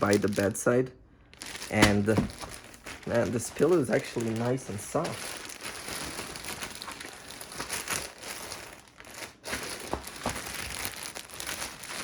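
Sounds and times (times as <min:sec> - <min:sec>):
pillow crinkling and rustling: 0:01.4 - 0:12.0.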